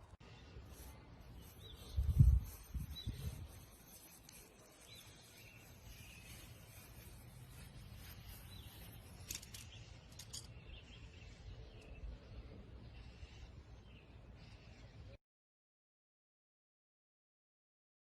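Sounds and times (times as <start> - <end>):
bird-like chirps: 0.2 - 15.2.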